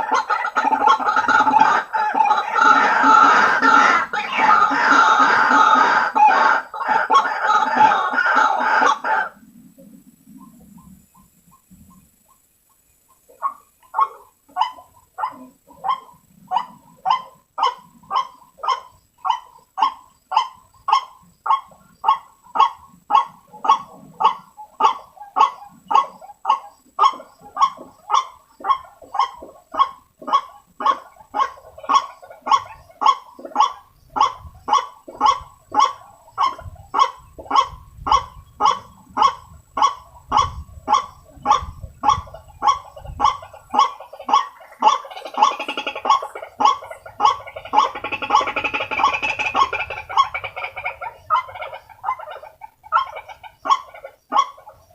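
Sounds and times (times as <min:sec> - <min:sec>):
waterhen calls: 0:00.0 - 0:54.9.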